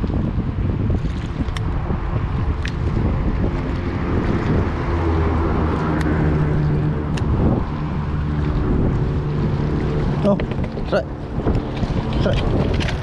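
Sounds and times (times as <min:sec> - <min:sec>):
wind buffeting microphone: 0:00.0 - 0:13.0
engine running: 0:00.8 - 0:13.0.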